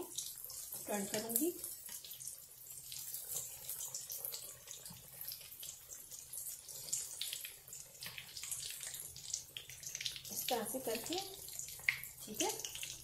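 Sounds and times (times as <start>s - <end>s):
kebabs sizzling in hot oil: 0.0s - 13.0s.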